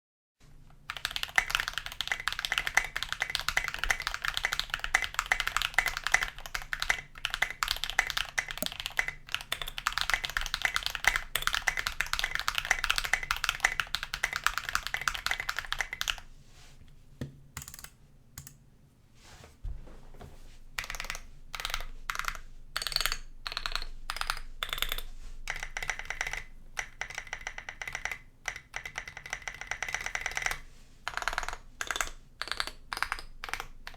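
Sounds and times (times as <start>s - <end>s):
mechanical keyboard typing: 0.9s - 16.2s, 17.6s - 18.6s, 20.8s - 33.9s.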